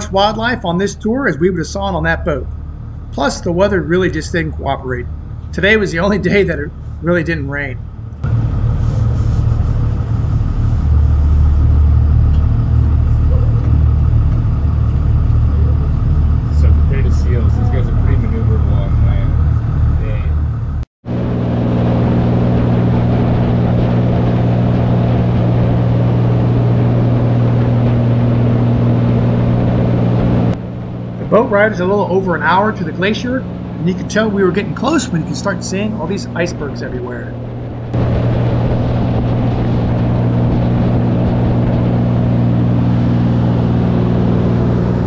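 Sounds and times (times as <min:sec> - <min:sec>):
boat engine drone: 0:00.0 - 0:45.0.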